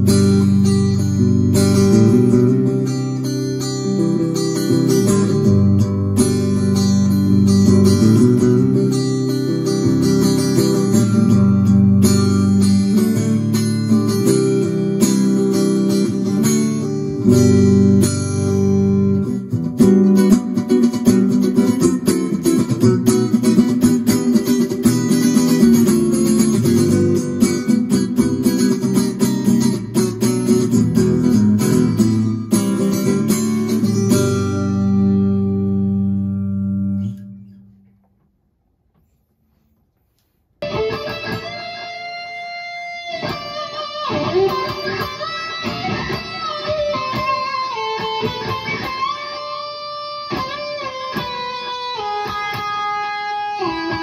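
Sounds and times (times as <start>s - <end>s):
electric guitar chords: 0.0s - 37.6s, 40.6s - 54.0s.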